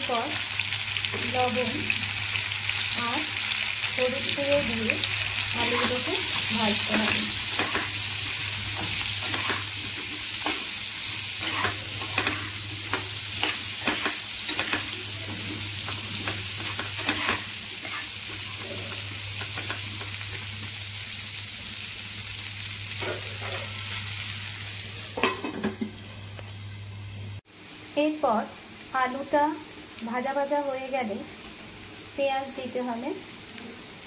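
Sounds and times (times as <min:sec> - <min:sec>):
potatoes sizzling in oil: 0:00.0 - 0:25.7, 0:26.5 - 0:34.0.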